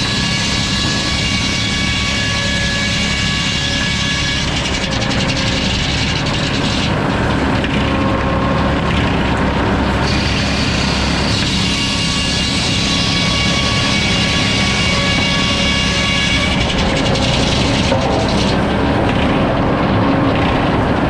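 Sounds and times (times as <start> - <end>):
sawmill machine drone: 0.0 - 21.0.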